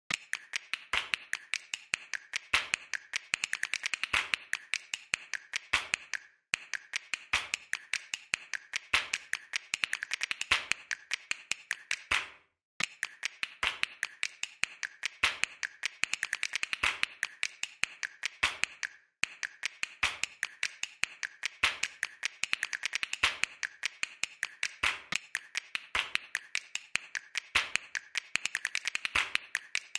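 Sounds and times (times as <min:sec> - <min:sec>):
rhythmic percussive clicks: 0:00.1 - 0:29.9.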